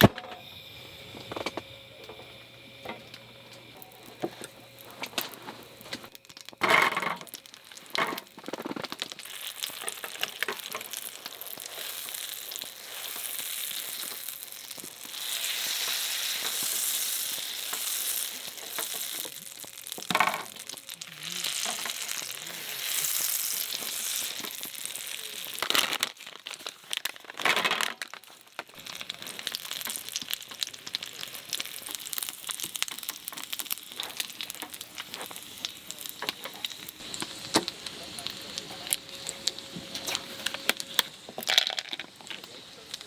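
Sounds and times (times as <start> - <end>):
food sizzling in a pan: 0.0 - 43.0.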